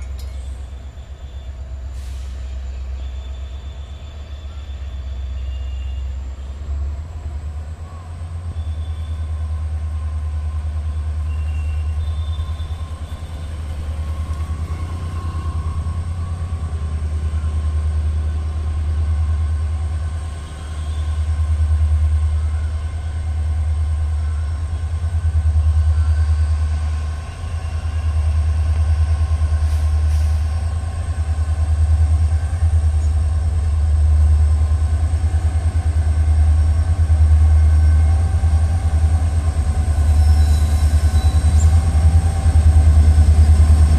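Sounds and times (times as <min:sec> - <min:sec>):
diesel locomotive engines rumbling: 0:00.0 - 0:43.9.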